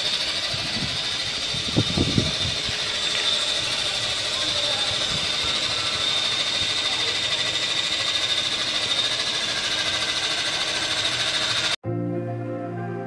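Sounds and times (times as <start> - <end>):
rc helicopter motor whine: 0.0 - 11.8.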